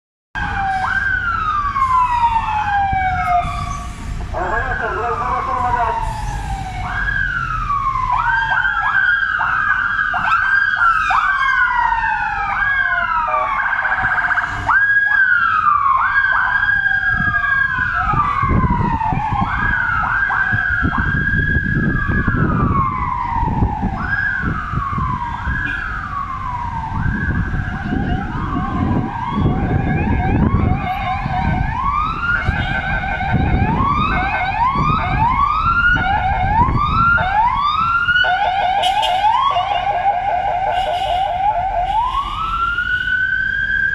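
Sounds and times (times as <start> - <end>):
vehicle sirens wailing: 0.4 - 43.9.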